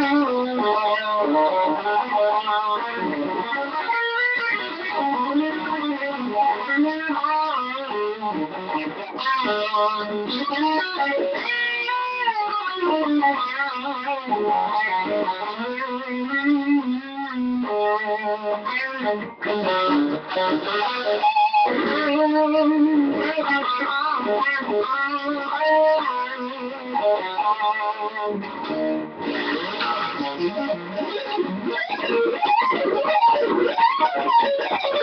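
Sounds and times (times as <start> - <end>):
electric guitar single notes: 0.0 - 35.0.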